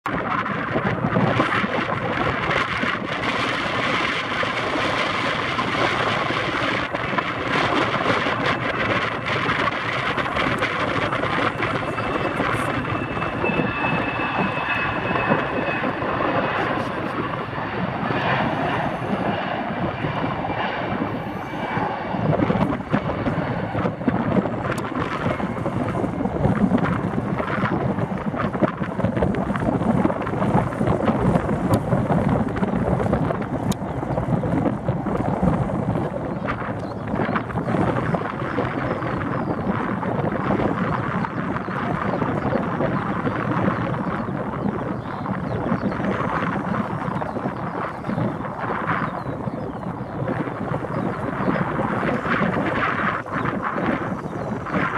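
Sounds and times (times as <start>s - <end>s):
jet engines on approach: 0.0s - 54.9s.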